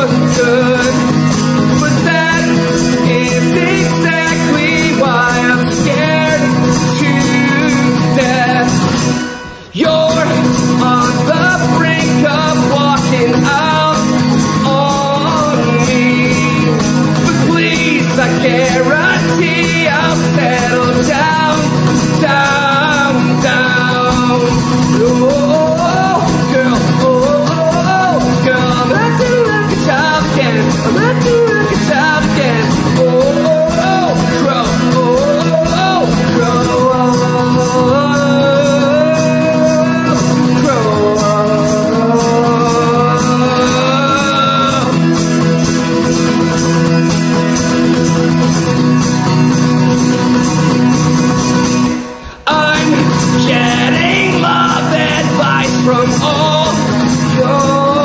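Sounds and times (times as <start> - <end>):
man singing folk song: 0.0 - 58.0
strummed acoustic guitar: 0.0 - 58.0.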